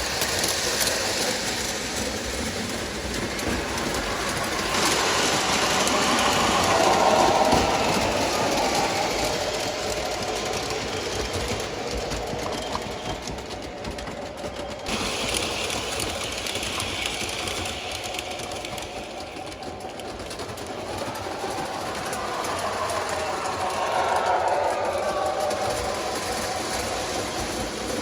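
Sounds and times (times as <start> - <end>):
wheels clicking over rails: 0.0 - 28.0.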